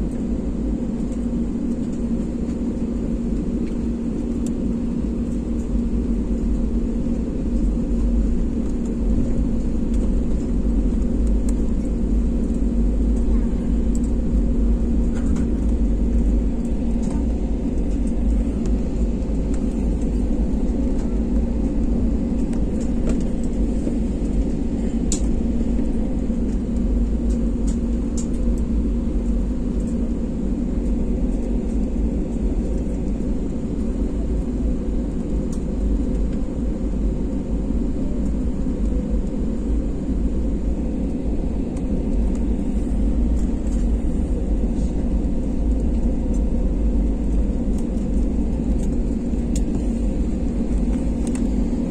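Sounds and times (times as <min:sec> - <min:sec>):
aircraft cabin rumble: 0:00.0 - 0:51.9
constant hum: 0:00.0 - 0:51.9.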